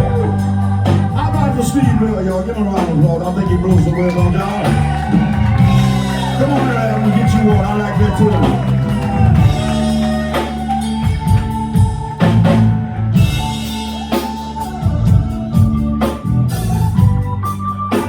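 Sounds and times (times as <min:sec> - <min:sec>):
blues band playing: 0:00.0 - 0:18.0.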